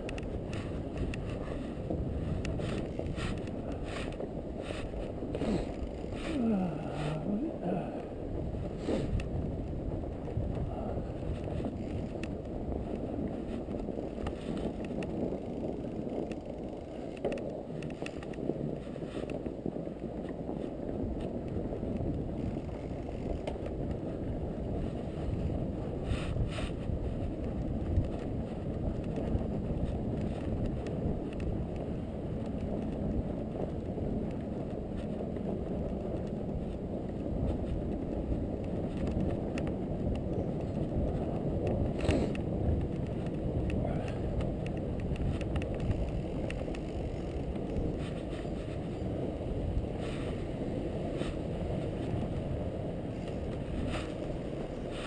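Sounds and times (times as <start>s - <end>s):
wide tyres rolling through snow: 0.0s - 55.0s
wind on microphone: 0.0s - 55.0s.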